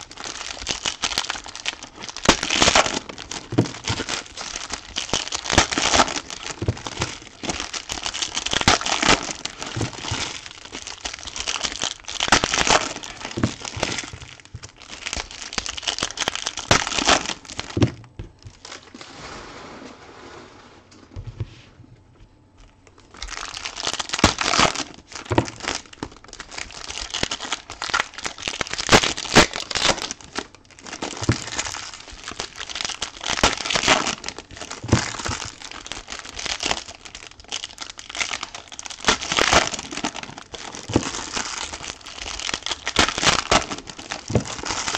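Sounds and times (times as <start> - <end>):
foil wrappers tearing and crinkling: 0.0 - 19.2, 22.6 - 44.9.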